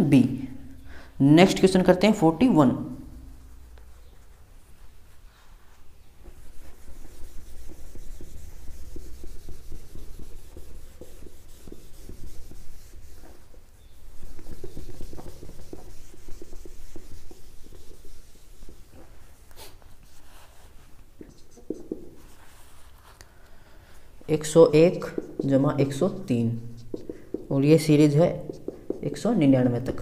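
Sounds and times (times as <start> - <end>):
whiteboard being wiped by hand: 3.3 - 23.2, 23.9 - 30.0.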